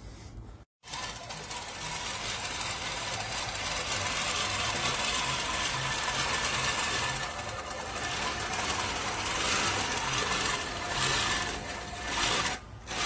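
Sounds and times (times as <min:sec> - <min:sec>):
push reel mower whirring: 0:00.8 - 0:13.0.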